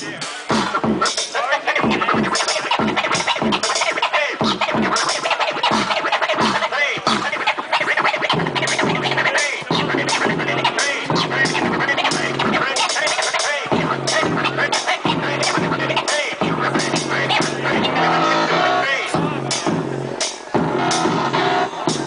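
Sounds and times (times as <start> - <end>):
hip hop beat: 0.0 - 22.0
vinyl record scratching: 0.0 - 22.0.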